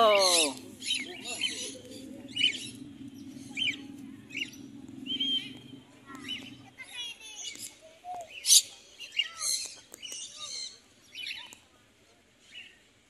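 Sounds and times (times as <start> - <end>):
birds chirping and trilling: 0.0 - 11.6.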